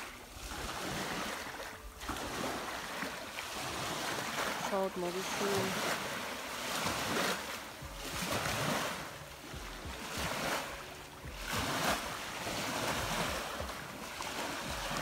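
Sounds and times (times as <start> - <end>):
waves washing against shore: 0.0 - 15.0.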